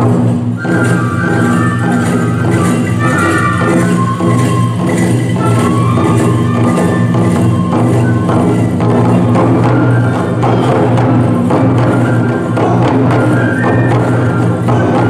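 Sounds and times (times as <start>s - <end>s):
bamboo flute melody: 0.0s - 15.0s
barrel drums beating: 0.0s - 15.0s.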